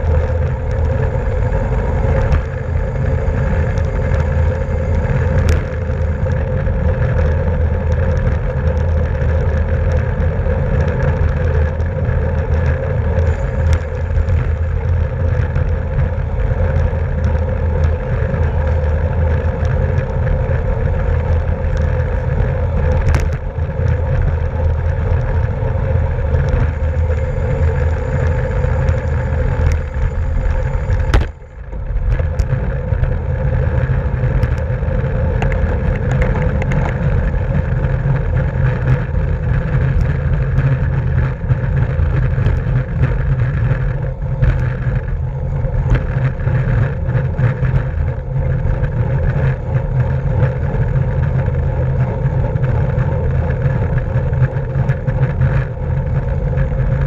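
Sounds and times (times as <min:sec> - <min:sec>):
bicycle tyre and drivetrain hum: 0:00.0 - 0:57.0
wind rushing over microphone: 0:00.0 - 0:57.0.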